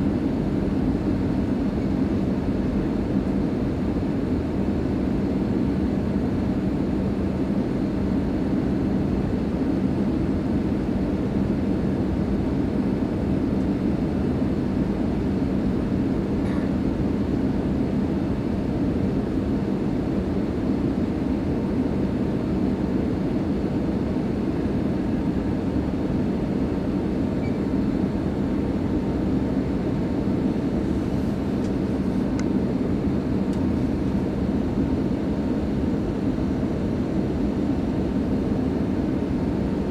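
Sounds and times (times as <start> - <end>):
low hum of jet engines: 0.0 - 39.9.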